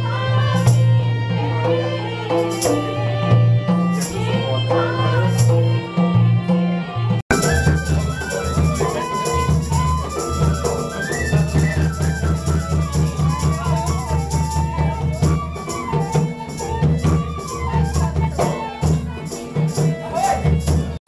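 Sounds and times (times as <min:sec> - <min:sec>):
hand drums beating: 0:00.2 - 0:21.0
wandering melody: 0:01.1 - 0:19.6.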